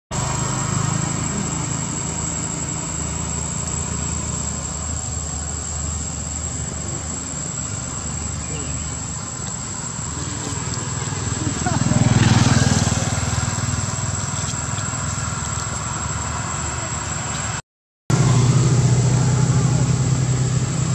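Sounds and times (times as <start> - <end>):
high-pitched insect buzz: 0.2 - 17.6.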